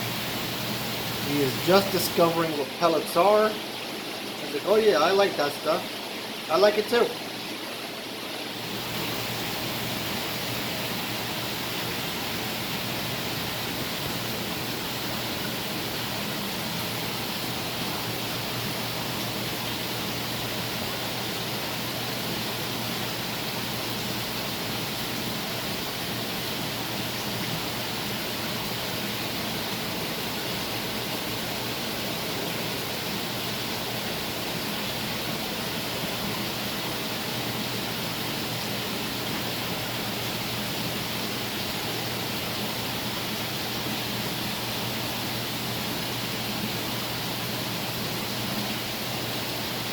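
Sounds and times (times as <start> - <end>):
low pump hum: 0.0 - 49.9
rushing water: 0.0 - 49.9.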